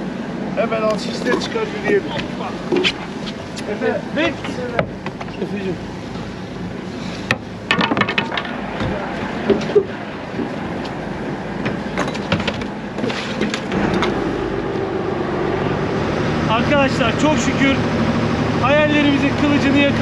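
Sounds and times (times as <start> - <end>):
steady engine hum: 0.0 - 20.0.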